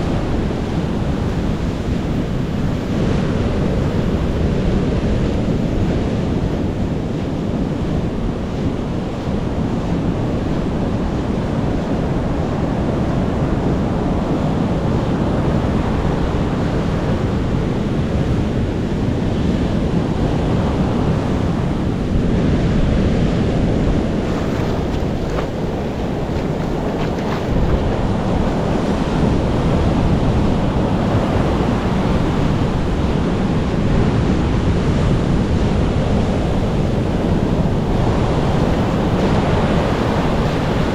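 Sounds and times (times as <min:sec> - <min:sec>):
ocean surf washing on beach: 0:00.0 - 0:40.9
wind buffeting microphone: 0:00.0 - 0:40.9.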